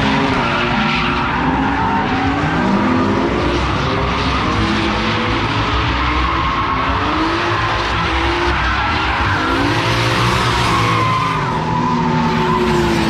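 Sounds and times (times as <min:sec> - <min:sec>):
car engines at high revs: 0:00.0 - 0:13.0.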